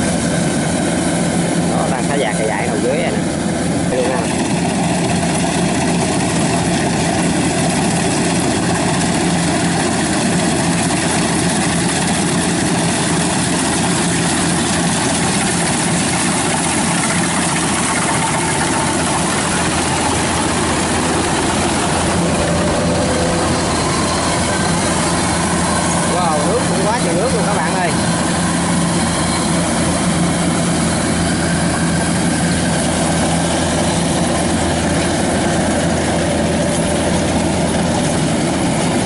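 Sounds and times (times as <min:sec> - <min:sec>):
combine harvester engine and machinery: 0:00.0 - 0:39.0.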